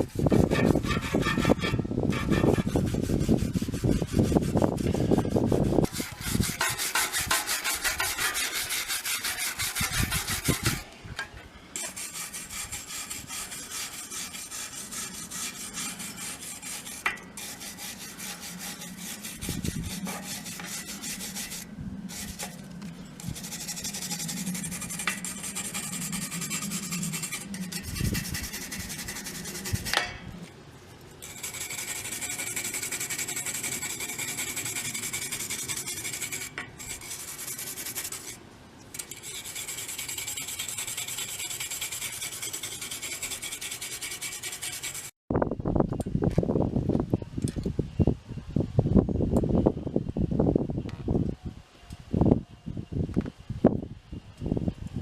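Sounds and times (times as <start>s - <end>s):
hand rubbing and scraping strokes: 0.0s - 45.2s.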